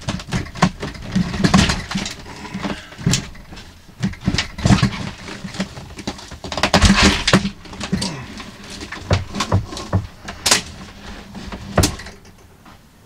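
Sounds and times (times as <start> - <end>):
wooden cabinet creaking and cracking: 0.0 - 13.0.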